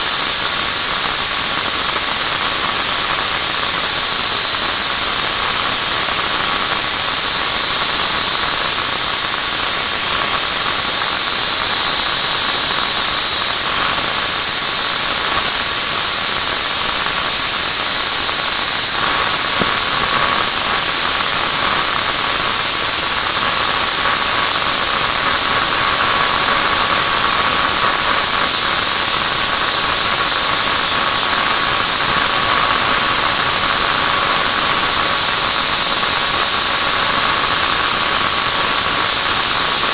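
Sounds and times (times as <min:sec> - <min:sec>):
angle grinder whining: 0:00.0 - 0:39.9.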